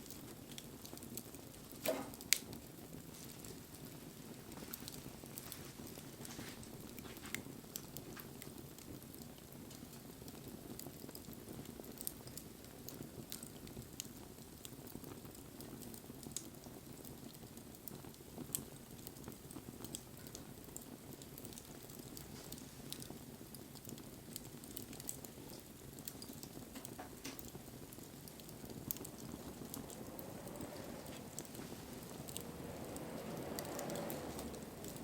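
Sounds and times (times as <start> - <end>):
bonfire flames rustling: 0.0 - 35.0
burning wood crackling and popping: 0.0 - 35.0.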